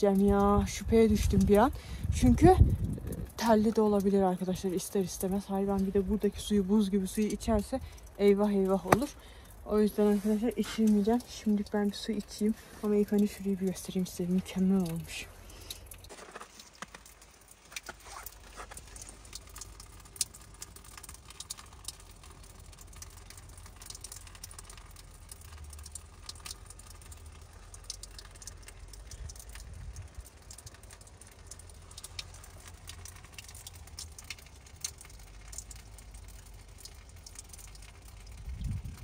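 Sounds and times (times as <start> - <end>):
water trickling onto ice: 0.0 - 39.0.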